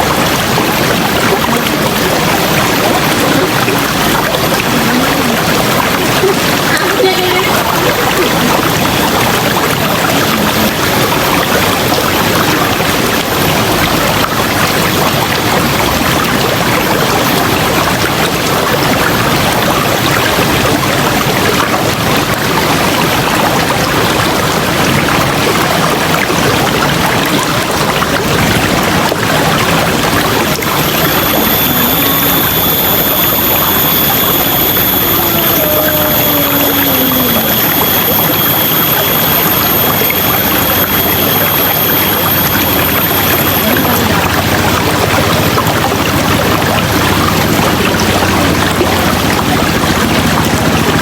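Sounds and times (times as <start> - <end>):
high-pitched whine: 0.0 - 51.0
river water rushing: 0.0 - 51.0.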